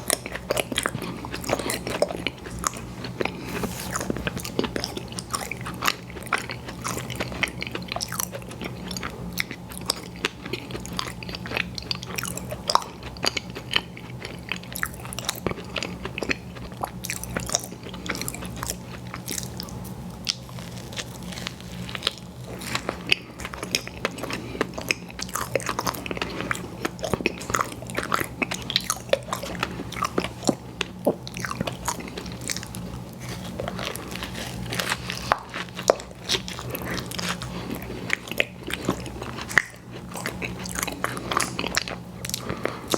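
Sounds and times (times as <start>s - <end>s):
crunching bites and wet chewing: 0.0s - 42.9s
steady low hum: 0.0s - 42.9s.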